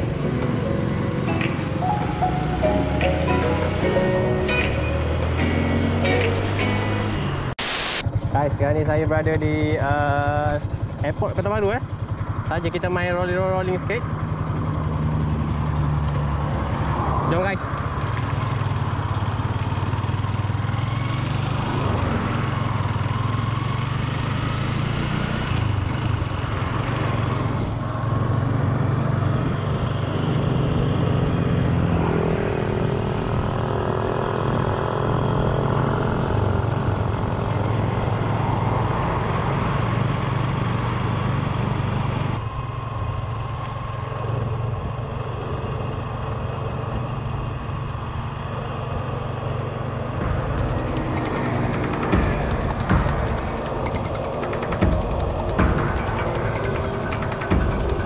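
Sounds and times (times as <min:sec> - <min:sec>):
scooter engine hum: 0:00.0 - 0:58.0
wind and road noise: 0:00.0 - 0:58.0.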